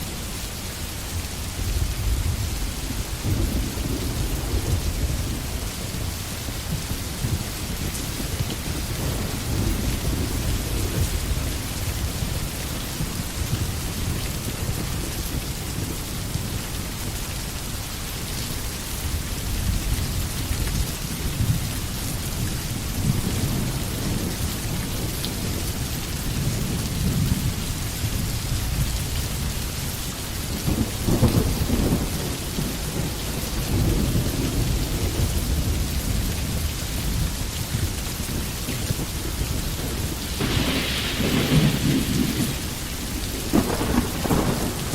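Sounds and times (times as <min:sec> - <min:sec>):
rain falling in a forest: 0:00.0 - 0:44.9.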